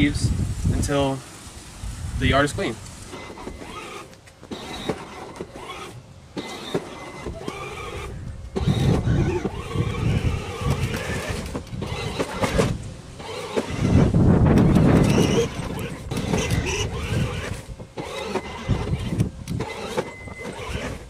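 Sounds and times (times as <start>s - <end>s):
electric motors whining: 2.8s - 21.0s.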